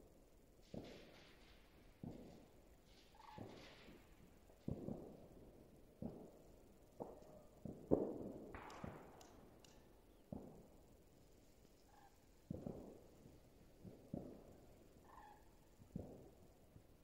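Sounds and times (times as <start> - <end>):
distant fireworks bangs: 0.6 - 17.0.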